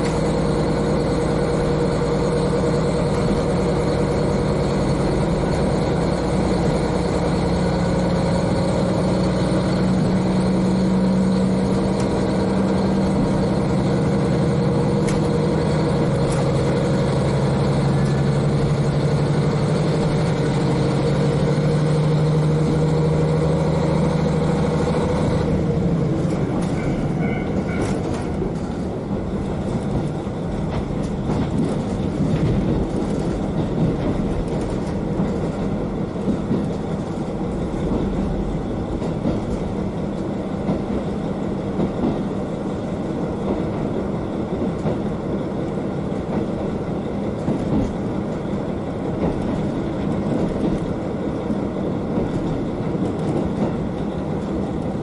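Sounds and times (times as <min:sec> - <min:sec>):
diesel engine running: 0:00.0 - 0:55.0
train wheels on rails: 0:00.0 - 0:55.0.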